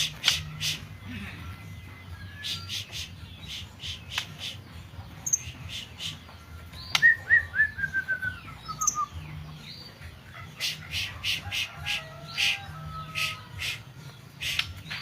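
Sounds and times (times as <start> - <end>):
bird singing chip notes: 0.0 - 15.0.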